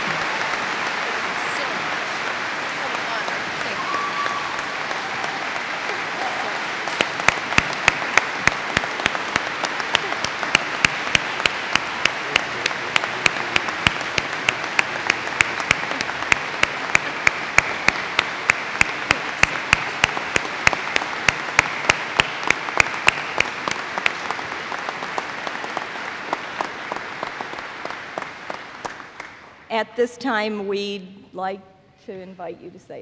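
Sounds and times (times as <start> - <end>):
hands clapping close to microphone: 0.0 - 29.6
audience applauding: 0.0 - 29.7.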